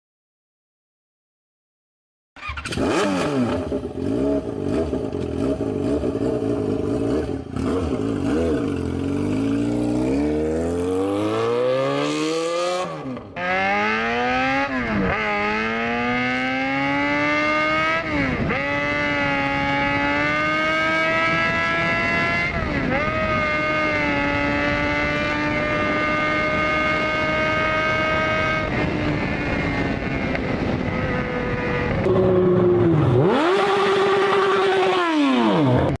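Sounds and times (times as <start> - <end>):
motorcycle engine accelerating: 2.4 - 36.0.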